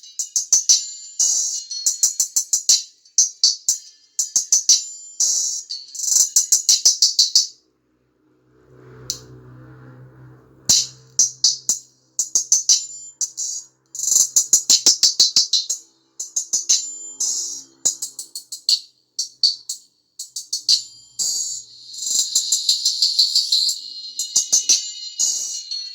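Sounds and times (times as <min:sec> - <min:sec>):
tinny music from small tweeter: 0:00.0 - 0:25.9.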